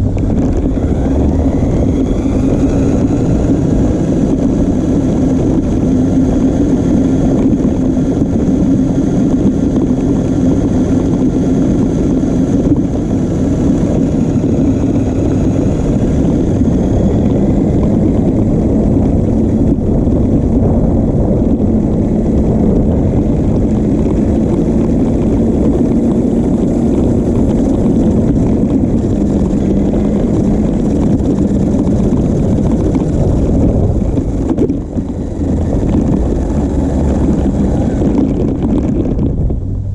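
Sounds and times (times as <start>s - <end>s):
rough rumble of wheels: 0.0s - 39.9s.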